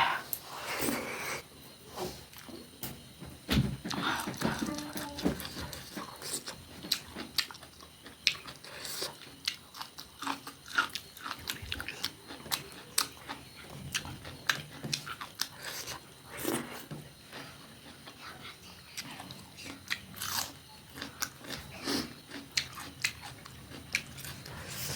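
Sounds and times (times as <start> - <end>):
crunchy food chewing: 3.9 - 24.9.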